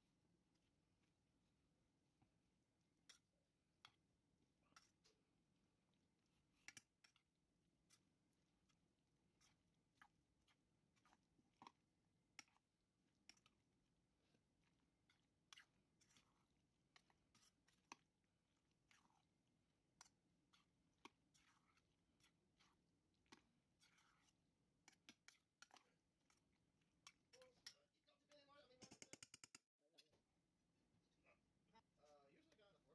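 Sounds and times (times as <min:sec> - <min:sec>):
wet squelches of stirring salad: 0:00.0 - 0:32.9.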